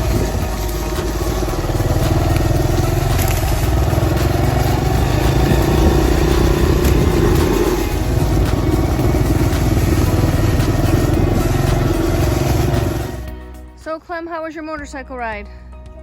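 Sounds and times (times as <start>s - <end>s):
dirt bike engine running: 0.0s - 13.6s.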